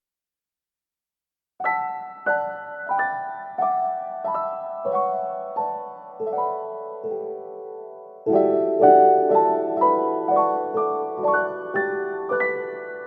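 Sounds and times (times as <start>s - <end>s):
gentle piano chords: 1.6s - 13.0s.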